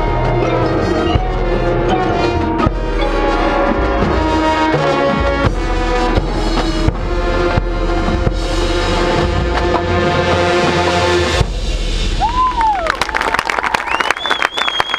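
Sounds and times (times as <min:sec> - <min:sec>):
brass section playing chords: 0:00.0 - 0:12.2
percussion hits: 0:00.0 - 0:13.7
drums: 0:00.0 - 0:14.9.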